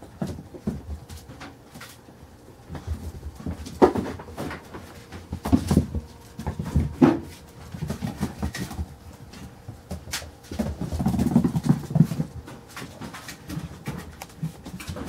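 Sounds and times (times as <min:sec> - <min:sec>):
puppies scuffling: 0:00.0 - 0:15.0.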